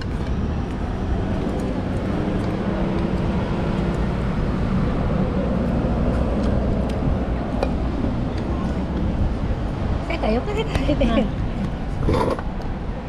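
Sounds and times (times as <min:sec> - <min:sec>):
faint engine hum: 0:00.0 - 0:13.0
traffic rumble: 0:00.0 - 0:13.0.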